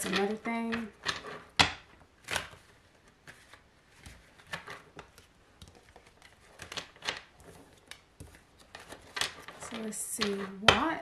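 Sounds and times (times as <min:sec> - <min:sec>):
cards shuffling: 0:00.0 - 0:10.9.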